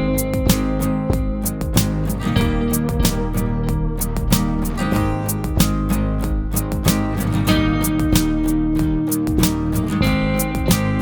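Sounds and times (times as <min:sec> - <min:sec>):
strummed guitar music: 0:00.0 - 0:11.0.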